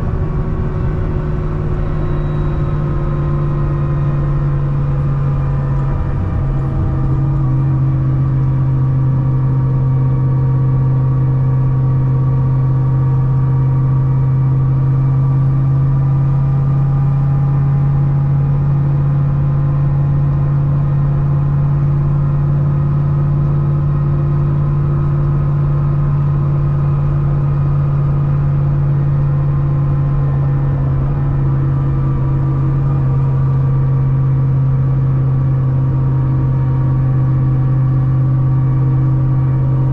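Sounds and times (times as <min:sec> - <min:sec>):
car engine cruising: 0:00.0 - 0:39.9.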